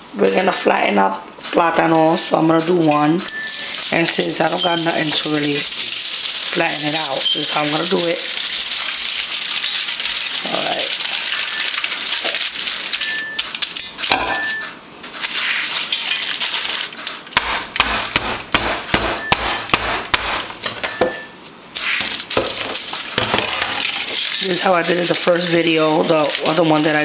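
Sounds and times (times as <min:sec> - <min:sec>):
oil sizzling: 0:03.3 - 0:18.5, 0:20.1 - 0:27.0.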